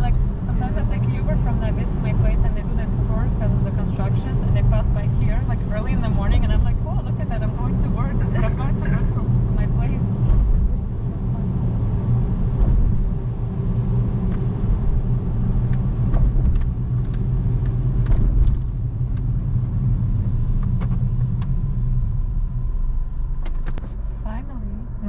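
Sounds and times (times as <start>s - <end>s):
road and engine rumble: 0.0s - 25.0s.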